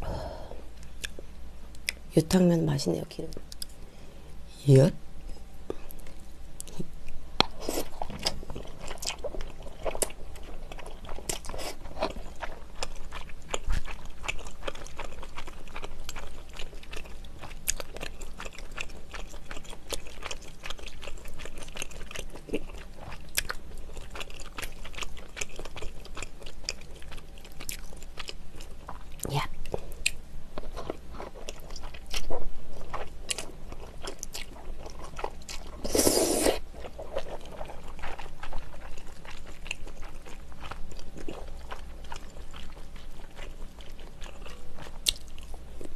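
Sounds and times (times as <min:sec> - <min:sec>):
wet chewing and slurping: 0:07.4 - 0:45.9.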